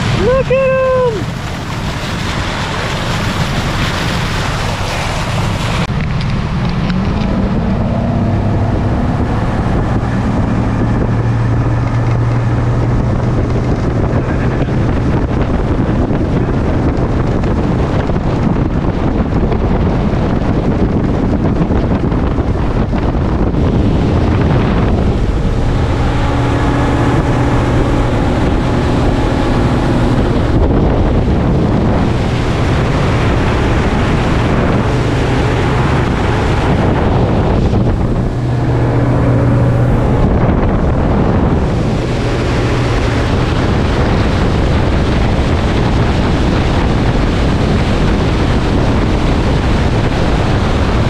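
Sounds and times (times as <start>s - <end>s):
motorboat engine hum: 0.0s - 51.0s
water rushing past hull: 0.0s - 51.0s
wind buffeting microphone: 0.0s - 51.0s.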